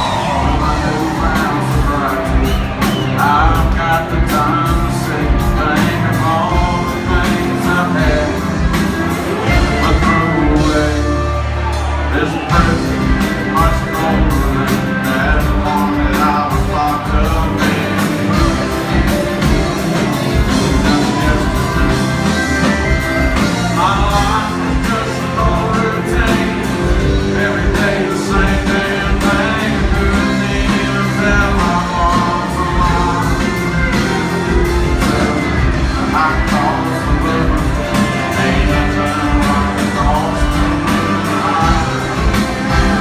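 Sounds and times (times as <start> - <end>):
live country band playing: 0.0 - 43.0.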